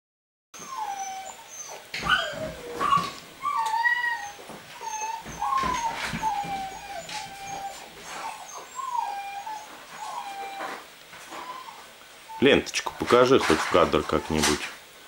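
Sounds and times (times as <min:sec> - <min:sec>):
puppy whining: 0:00.6 - 0:14.5.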